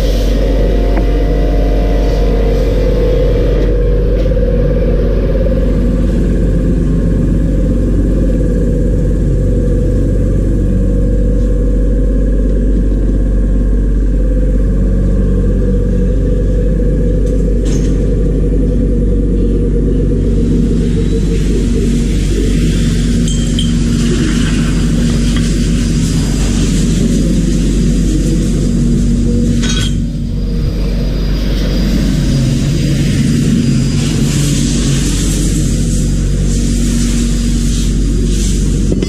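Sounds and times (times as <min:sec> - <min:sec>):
loud low rumble: 0:00.0 - 0:39.0.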